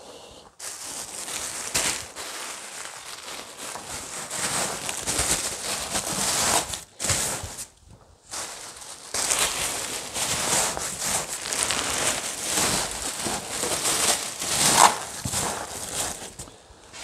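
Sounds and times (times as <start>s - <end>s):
bubble wrap crinkling: 0.6s - 17.0s.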